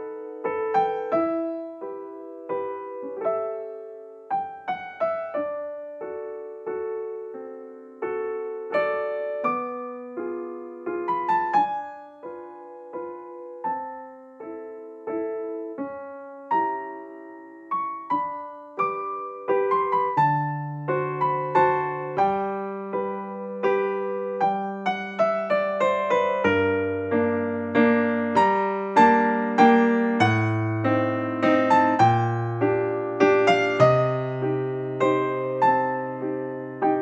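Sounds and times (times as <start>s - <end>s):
gentle piano music: 0.0s - 37.0s.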